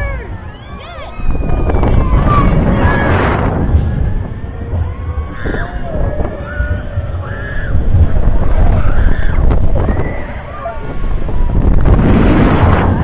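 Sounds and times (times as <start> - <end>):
high bending cries: 0.0 - 12.0
wind buffeting microphone: 1.0 - 13.0.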